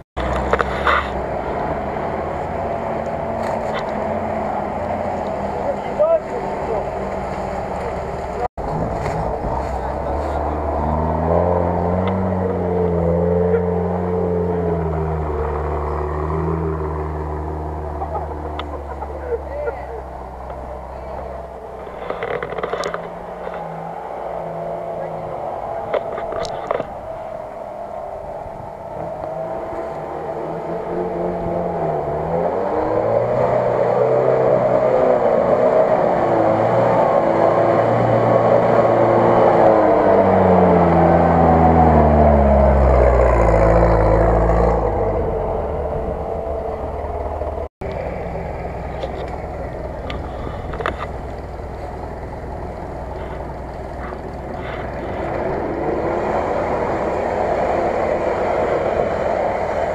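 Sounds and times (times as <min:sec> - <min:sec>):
off-road engine revving: 0:00.0 - 0:59.9
off-road engine running steadily: 0:00.2 - 0:59.9.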